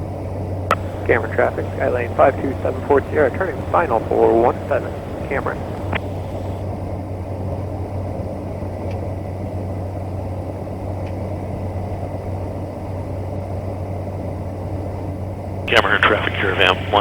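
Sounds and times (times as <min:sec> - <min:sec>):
turboprop engine in flight: 0:00.0 - 0:17.0.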